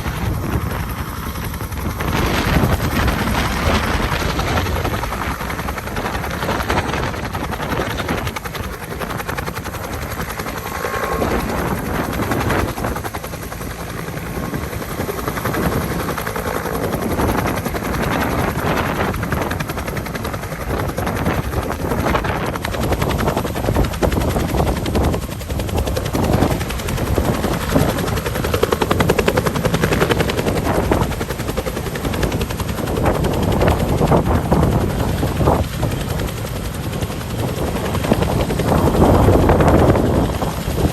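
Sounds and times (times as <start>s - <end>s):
helicopter rotor and turbine: 0.0s - 40.9s.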